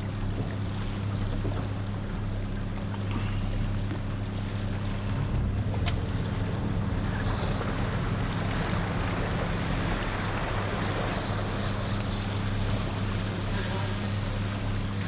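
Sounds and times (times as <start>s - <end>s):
outboard motors humming: 0.0s - 15.0s
water noise: 0.0s - 15.0s
wind: 0.0s - 15.0s.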